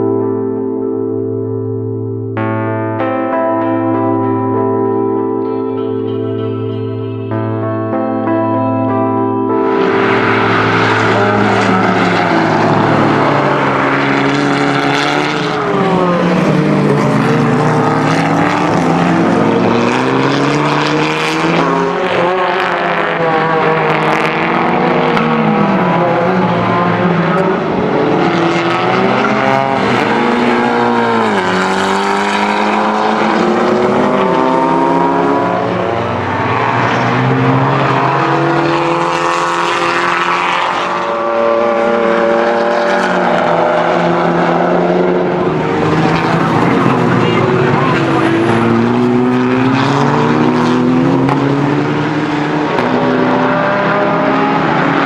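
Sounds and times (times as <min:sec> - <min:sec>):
race car engine revving: 0:09.6 - 0:55.0.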